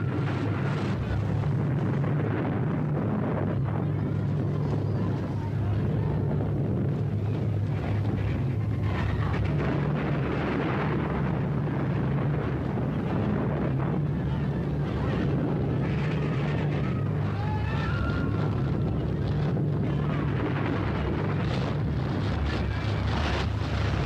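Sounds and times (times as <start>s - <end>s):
heavy earthquake rumble: 0.0s - 24.0s.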